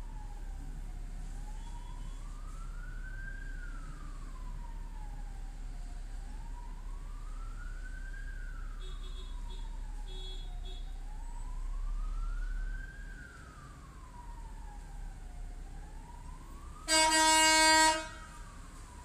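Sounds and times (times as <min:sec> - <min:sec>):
low rumble of street traffic: 0:00.0 - 0:19.0
siren wailing: 0:00.0 - 0:19.0.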